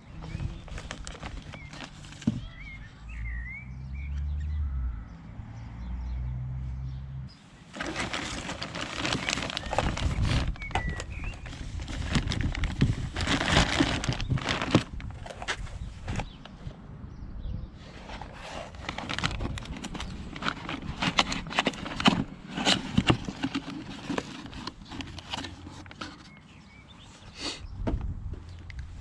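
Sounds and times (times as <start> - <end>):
birds chirping: 0.0 - 12.5, 15.5 - 28.8.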